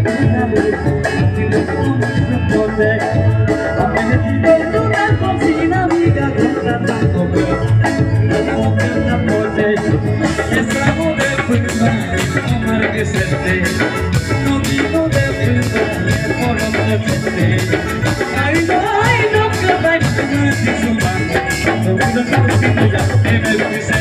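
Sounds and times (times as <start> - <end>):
bass: 0.0 - 24.0
drum beat: 0.0 - 24.0
electric guitar: 0.0 - 24.0
keyboard: 0.0 - 24.0
man singing amplified: 0.0 - 24.0.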